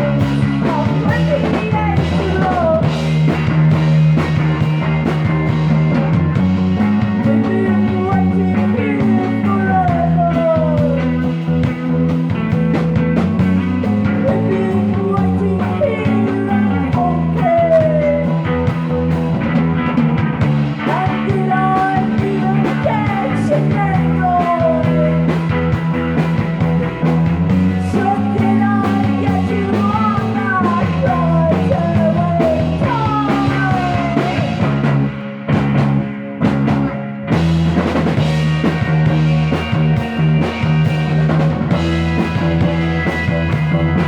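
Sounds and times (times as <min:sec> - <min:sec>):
gliding lead guitar lines: 0:00.0 - 0:44.0
live rock band playing: 0:00.0 - 0:44.0
steady drums: 0:00.0 - 0:44.0.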